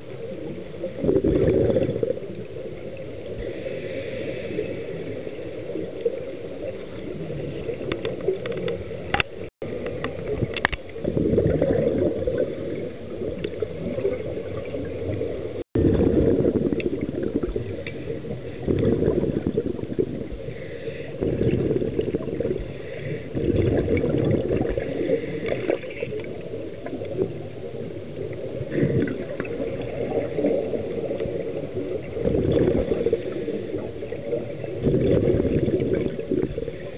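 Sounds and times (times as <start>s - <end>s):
bubbling exhaled air underwater: 0.0s - 36.9s.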